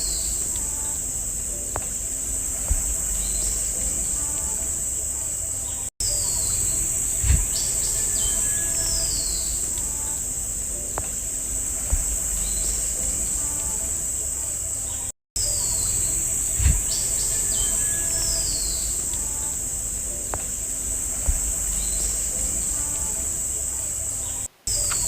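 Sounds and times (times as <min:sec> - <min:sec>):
low rumble: 0:00.0 - 0:05.0, 0:06.0 - 0:13.7, 0:15.4 - 0:23.7
bird chirps: 0:00.0 - 0:25.0
insect drone: 0:00.0 - 0:25.0.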